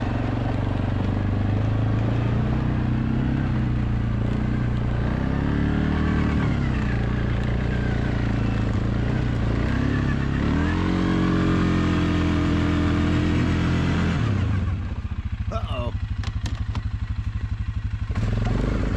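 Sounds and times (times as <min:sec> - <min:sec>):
engine running and revving: 0:00.0 - 0:18.9.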